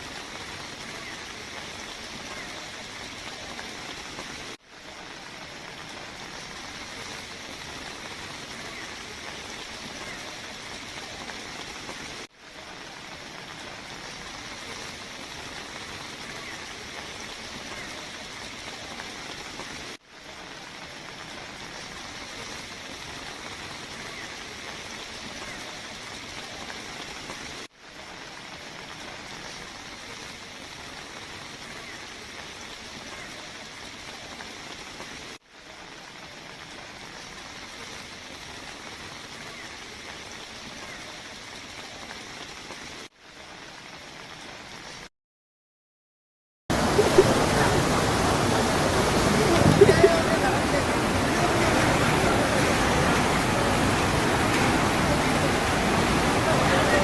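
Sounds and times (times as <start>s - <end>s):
water rushing: 0.0s - 45.0s, 46.7s - 57.0s.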